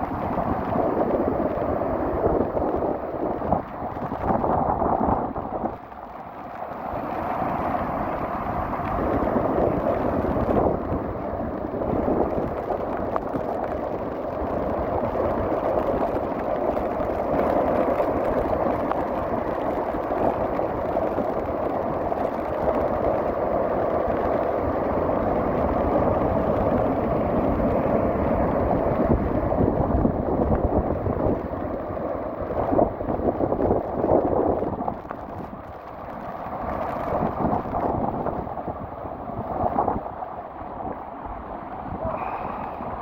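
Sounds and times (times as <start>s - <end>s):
sea waves breaking: 0.0s - 43.0s
wind buffeting microphone: 0.0s - 43.0s.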